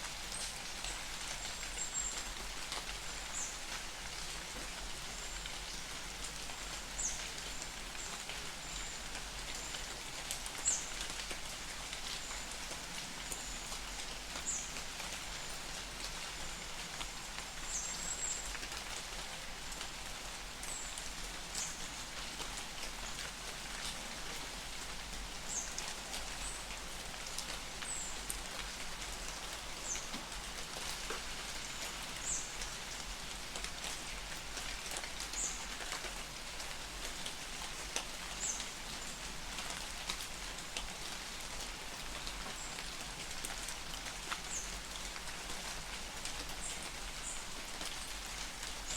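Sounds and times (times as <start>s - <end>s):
light rain falling: 0.0s - 48.9s.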